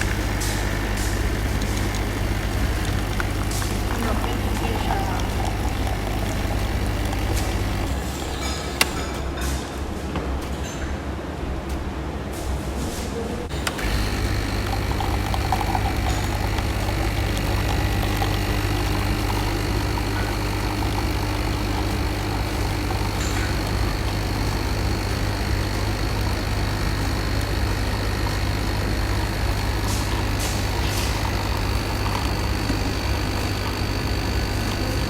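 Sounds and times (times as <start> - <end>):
coffee machine pump humming: 0.0 - 9.9, 13.5 - 35.0.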